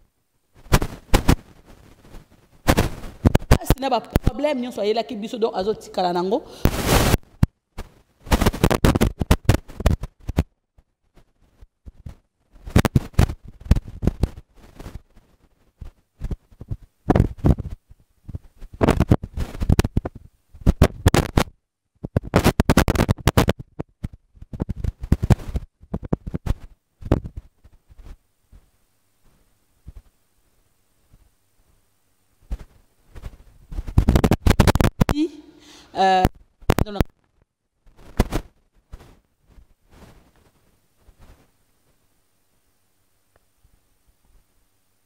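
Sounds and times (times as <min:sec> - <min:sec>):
microphone handling scratching: 0:00.5 - 0:30.2, 0:32.4 - 0:41.6.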